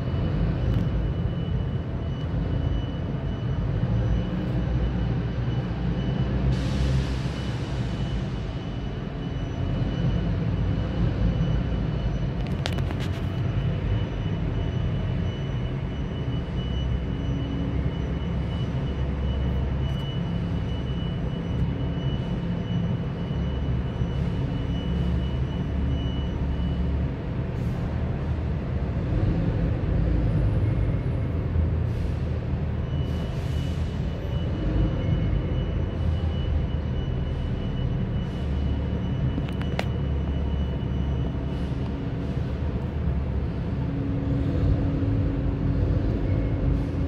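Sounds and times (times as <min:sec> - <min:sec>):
bus diesel engine rumble: 0:00.0 - 0:47.0.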